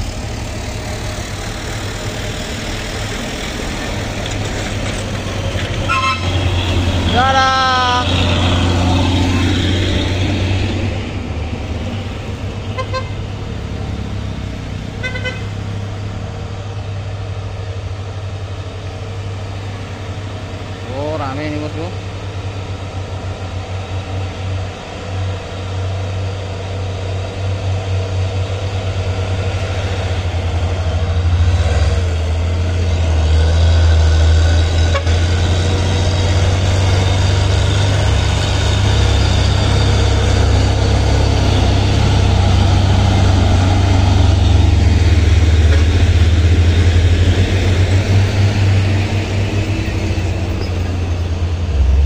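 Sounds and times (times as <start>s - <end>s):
heavy diesel truck engines: 0.0s - 52.0s.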